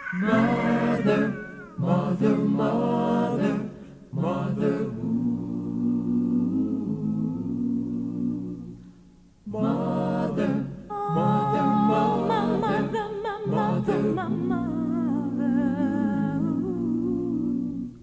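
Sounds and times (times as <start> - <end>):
voices singing in harmony: 0.0 - 18.0.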